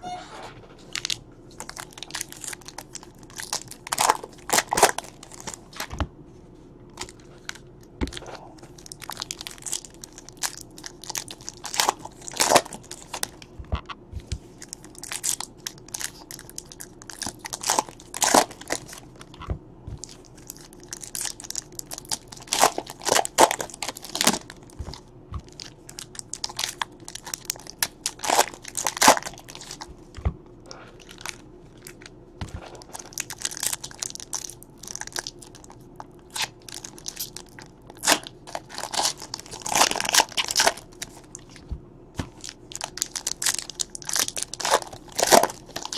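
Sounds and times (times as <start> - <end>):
wrappers crinkling and tearing: 0.8 - 5.8, 6.9 - 13.5, 14.6 - 19.3, 20.0 - 29.9, 31.0 - 41.6, 42.3 - 45.9.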